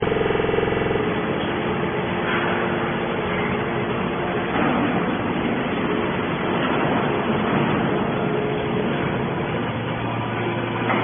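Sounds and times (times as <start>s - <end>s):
hydraulic baler running: 0.0s - 11.0s.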